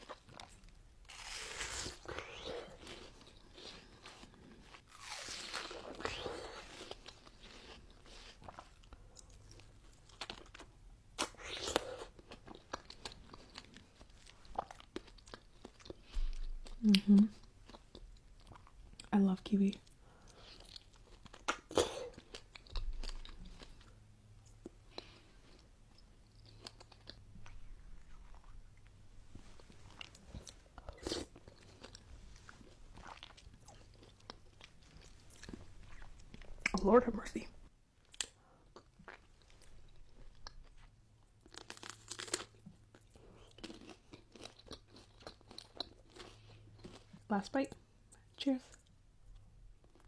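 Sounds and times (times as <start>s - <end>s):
chewing soft fruit: 0.0s - 19.1s, 19.7s - 29.0s, 38.0s - 50.0s.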